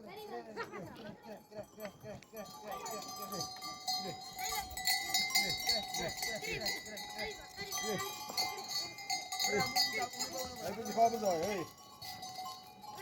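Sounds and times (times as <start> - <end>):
livestock bells ringing: 0.0 - 13.0.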